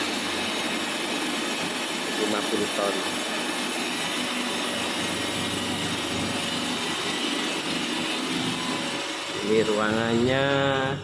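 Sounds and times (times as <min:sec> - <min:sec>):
machine hiss with high tones: 0:00.0 - 0:11.0.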